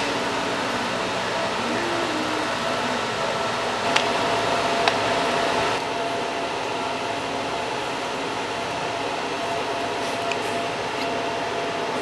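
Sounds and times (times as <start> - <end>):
laser welder hum and hiss: 0.0 - 12.0.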